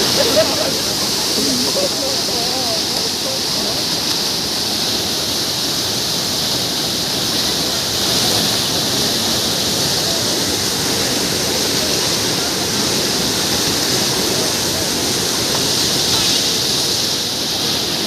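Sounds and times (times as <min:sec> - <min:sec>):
water rushing through gates: 0:00.0 - 0:18.0.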